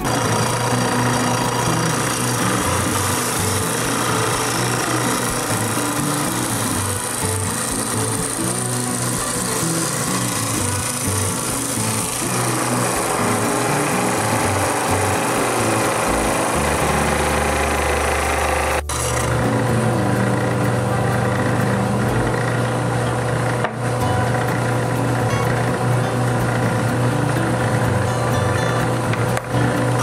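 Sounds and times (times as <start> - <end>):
electric motor humming: 0.0 - 30.0.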